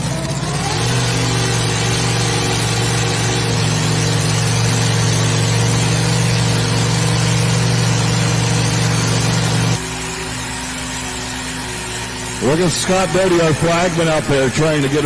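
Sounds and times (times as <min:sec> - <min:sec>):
tractor engine at high revs: 0:00.0 - 0:15.0.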